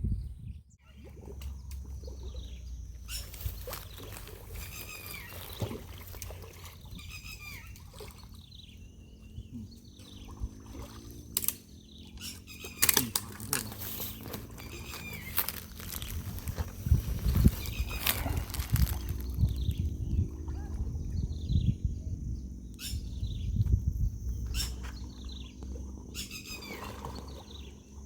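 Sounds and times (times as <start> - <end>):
water splashing and trickling: 0.8 - 21.4, 24.7 - 28.0.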